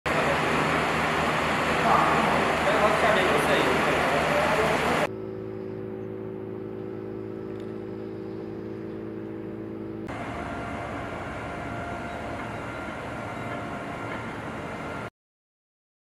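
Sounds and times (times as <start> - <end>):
industrial machinery hum: 0.1 - 15.1
rough machinery din: 0.1 - 15.1.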